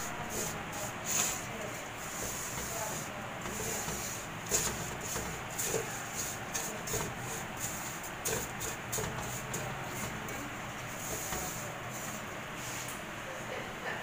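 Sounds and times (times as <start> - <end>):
spatula scraping in a pan: 0.0 - 12.9.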